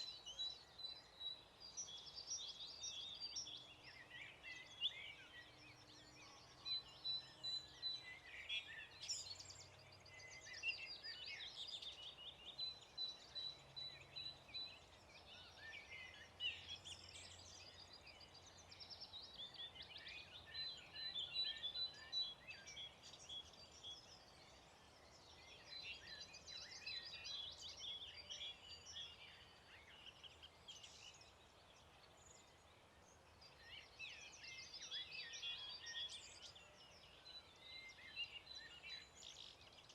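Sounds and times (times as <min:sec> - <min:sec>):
songbirds dawn chorus: 0:00.0 - 0:39.9.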